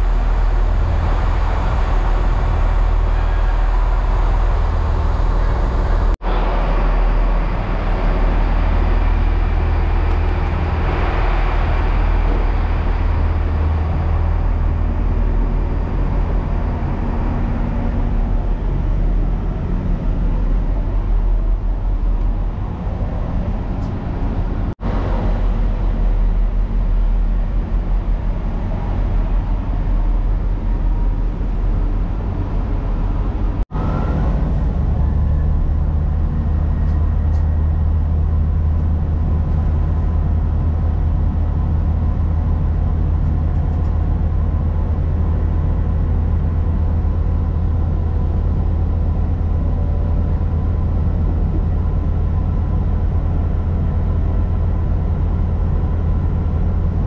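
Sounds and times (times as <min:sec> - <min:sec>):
train diesel engine drone: 0:00.0 - 0:57.0.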